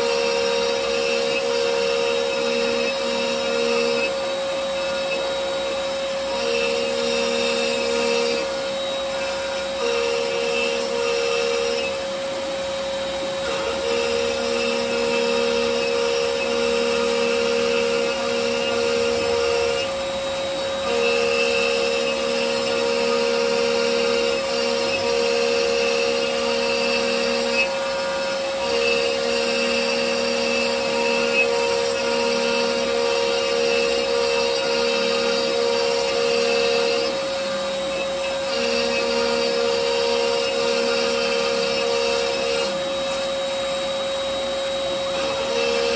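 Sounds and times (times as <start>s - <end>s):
router bit cutting wood: 0.0s - 45.9s
router spindle whine: 0.0s - 45.9s.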